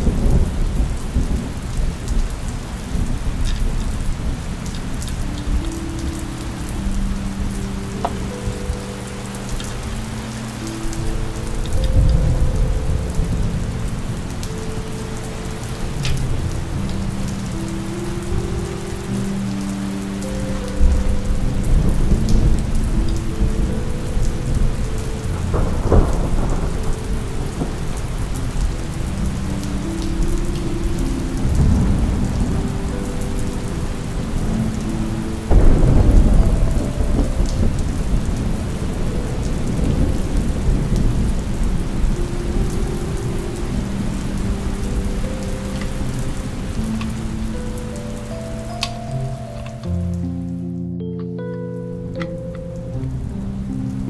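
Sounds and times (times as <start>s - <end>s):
low rolls of thunder: 0.0s - 8.9s, 9.8s - 19.1s, 20.8s - 47.6s
steady rainfall: 0.0s - 54.0s.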